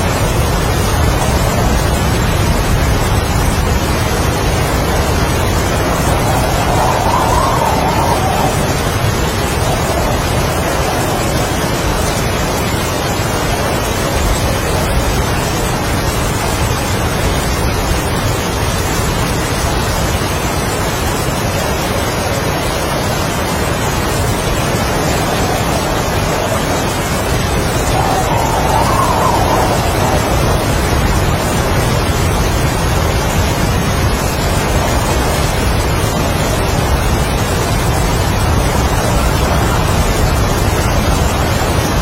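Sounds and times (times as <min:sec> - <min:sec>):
heavy rain: 0:00.0 - 0:42.0
strong wind: 0:00.0 - 0:42.0.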